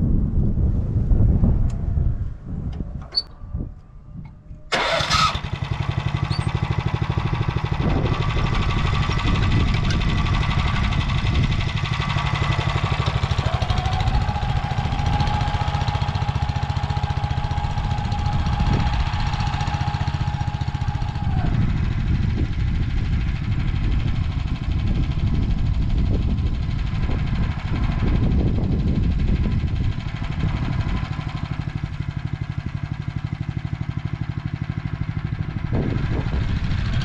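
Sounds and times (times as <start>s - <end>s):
tractor engine running under load: 1.3s - 37.0s.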